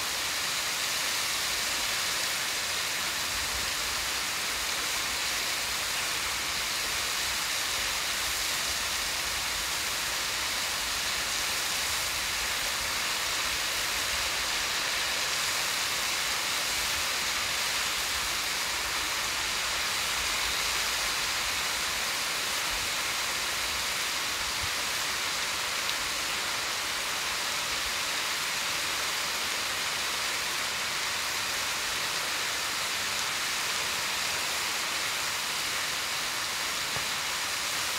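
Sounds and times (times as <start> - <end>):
waterfall hiss: 0.0 - 37.9.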